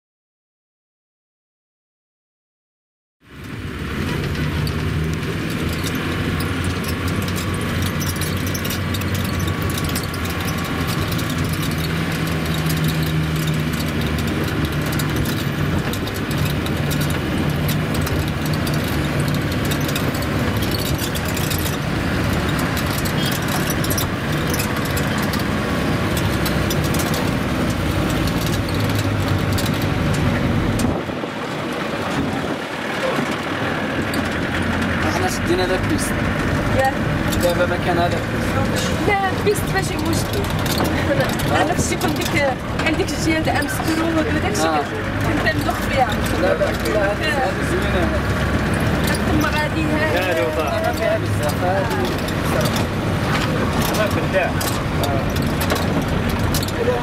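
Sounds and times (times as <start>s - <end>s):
vehicle engine running: 3.2s - 57.0s
rattles and knocks: 3.4s - 57.0s.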